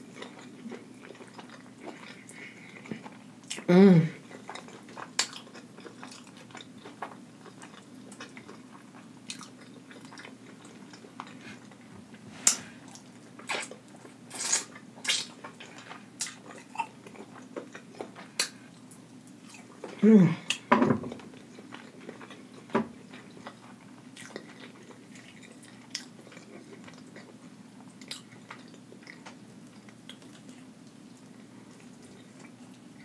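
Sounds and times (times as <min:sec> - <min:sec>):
person chewing chicken: 0:00.0 - 0:33.0.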